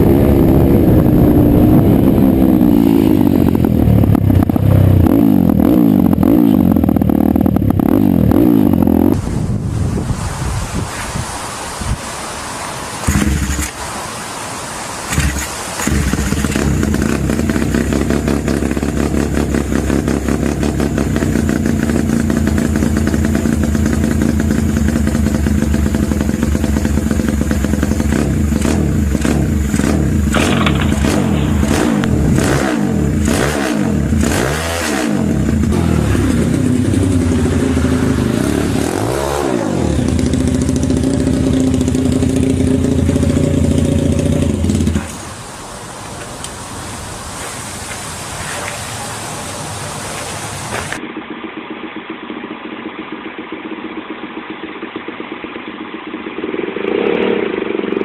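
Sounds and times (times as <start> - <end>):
small motorcycle engine running: 0.0 - 9.2, 13.0 - 13.8, 15.1 - 45.2, 50.2 - 58.0.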